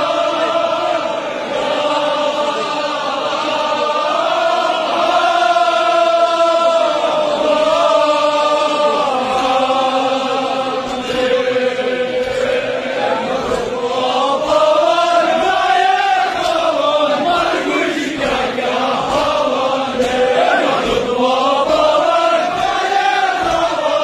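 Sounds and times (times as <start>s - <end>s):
crowd of men chanting: 0.0s - 24.0s.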